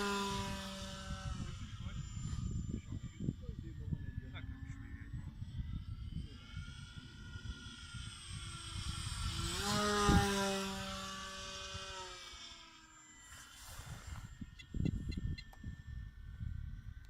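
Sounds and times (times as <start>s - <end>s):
wind rumble on microphone: 0.0s - 12.2s, 13.3s - 17.0s
model plane propeller passing: 0.0s - 17.0s.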